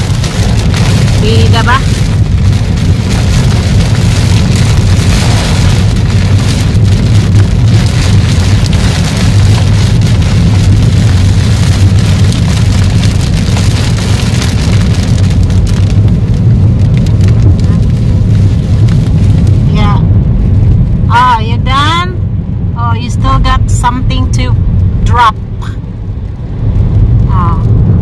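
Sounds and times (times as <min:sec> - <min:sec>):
engine and tyre rumble: 0:00.0 - 0:28.0
rain beating on car: 0:00.0 - 0:28.0.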